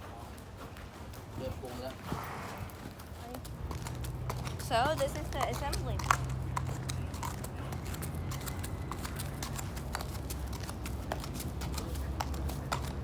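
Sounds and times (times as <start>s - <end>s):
horse hooves clip-clopping: 0.0s - 13.0s.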